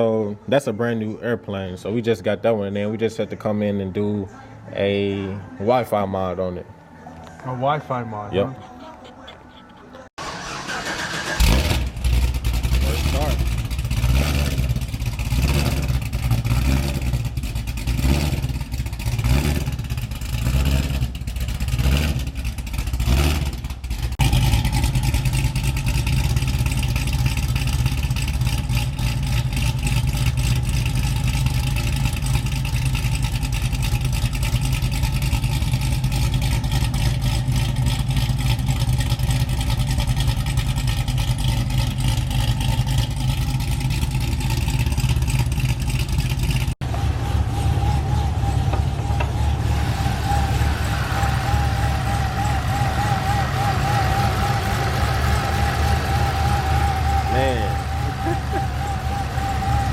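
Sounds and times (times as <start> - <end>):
car engine running: 9.2 - 59.9.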